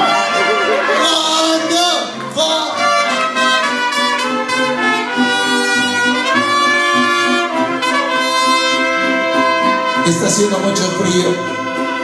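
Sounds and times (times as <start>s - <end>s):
mariachi band playing: 0.0s - 12.0s
trumpets playing melody: 0.0s - 12.0s.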